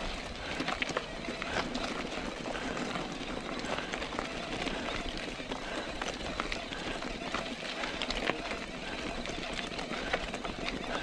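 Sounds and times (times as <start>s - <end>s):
bike rattling and clicking: 0.0s - 11.0s.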